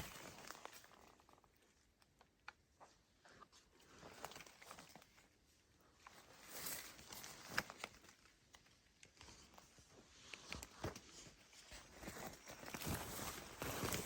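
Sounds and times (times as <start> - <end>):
rustling and crunching: 0.0 - 2.0, 3.2 - 14.0.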